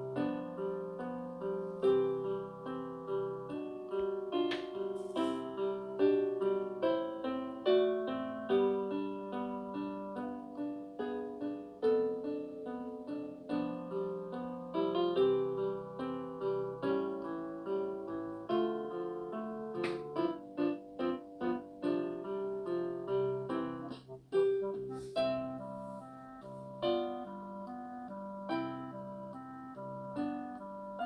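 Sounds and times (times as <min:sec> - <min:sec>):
plucked string and keyboard music: 0:00.0 - 0:31.0.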